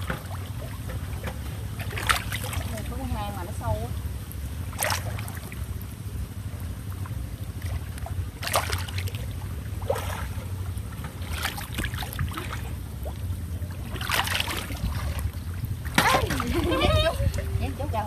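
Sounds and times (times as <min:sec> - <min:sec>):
water sloshing and splashing: 0:00.0 - 0:18.0
wind rumble on microphone: 0:00.0 - 0:18.0.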